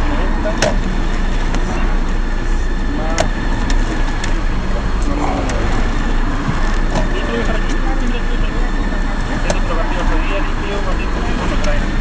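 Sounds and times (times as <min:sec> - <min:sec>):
car cabin engine and road noise: 0:00.0 - 0:12.0.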